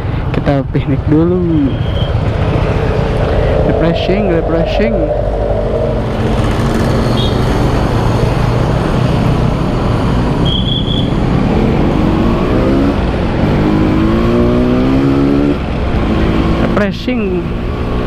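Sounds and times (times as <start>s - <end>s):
road and wind rush: 0.0s - 18.0s.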